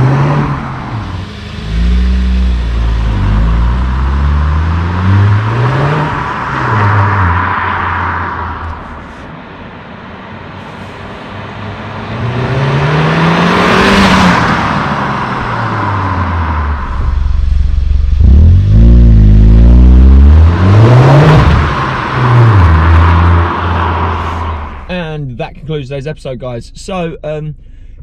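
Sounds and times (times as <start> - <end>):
car engine revving: 0.0 - 9.2, 10.8 - 27.9.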